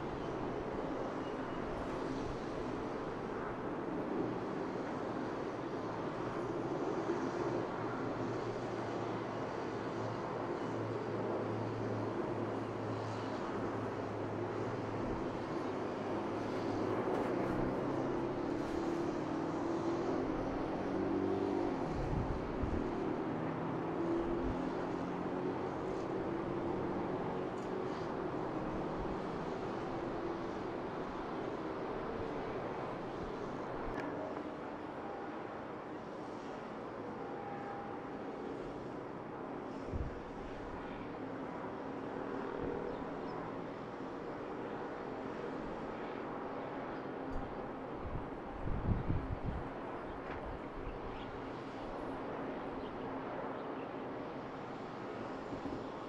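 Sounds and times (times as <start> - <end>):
distant traffic hum: 0.0 - 56.0.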